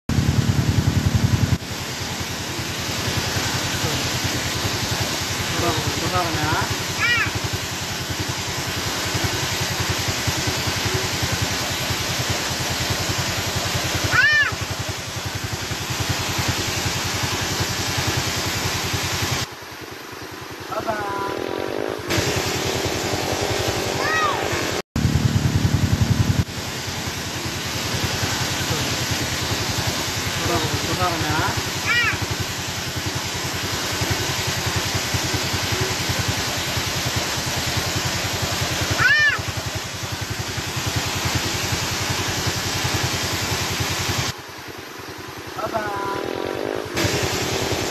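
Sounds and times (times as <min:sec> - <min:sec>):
vehicle engine idling: 0:00.1 - 0:21.3, 0:25.0 - 0:46.4
small waterfall rushing: 0:00.1 - 0:47.9.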